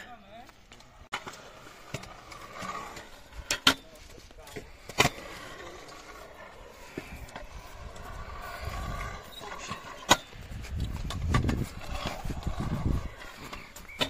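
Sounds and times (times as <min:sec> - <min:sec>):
skateboard wheels rolling on concrete: 0:00.0 - 0:14.0.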